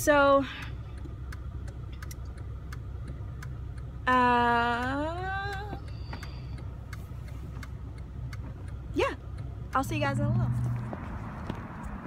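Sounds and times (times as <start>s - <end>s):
engine hum: 0.0s - 12.0s
turn signal clicking: 0.0s - 12.0s.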